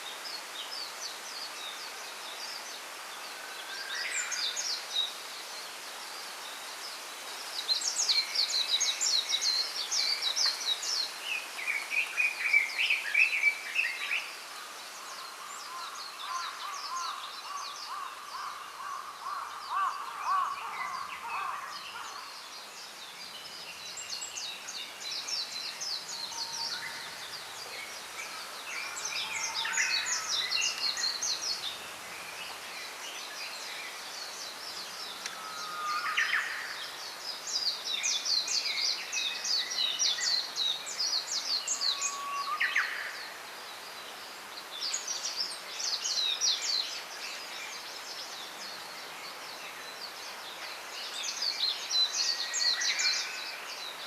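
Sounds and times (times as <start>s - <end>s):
faint steady hiss: 0.0s - 54.0s
small songbirds singing: 0.0s - 54.0s.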